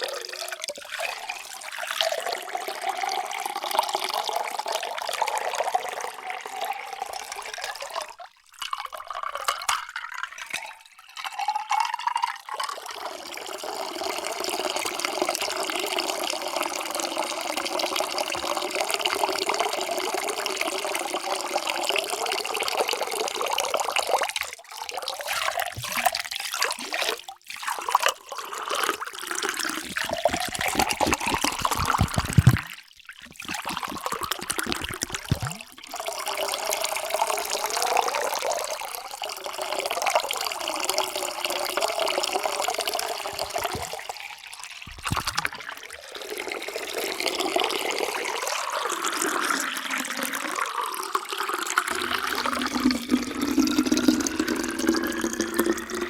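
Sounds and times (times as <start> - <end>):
water pouring into a container: 0.0 - 56.0.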